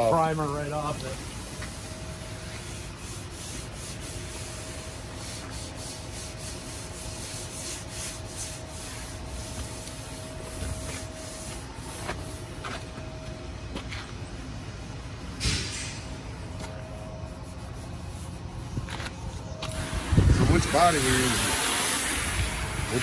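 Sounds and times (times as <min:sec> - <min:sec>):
abrasive pad scrubbing metal: 0:00.0 - 0:12.9, 0:16.1 - 0:23.0.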